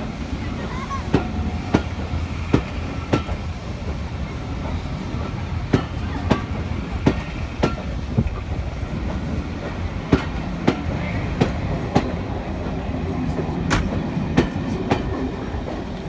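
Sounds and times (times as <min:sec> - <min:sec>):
train low rumble: 0:00.0 - 0:16.0
train wheels clicking over rail joints: 0:00.0 - 0:16.0.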